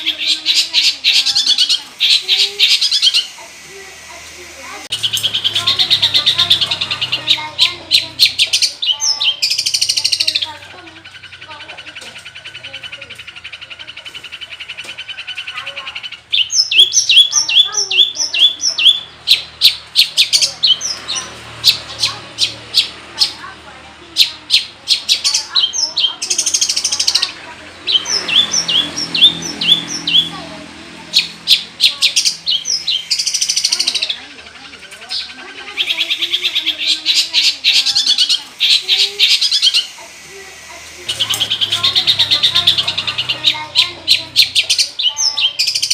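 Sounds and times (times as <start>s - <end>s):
bird trill: 0.0s - 45.9s
shrike singing: 0.0s - 45.9s.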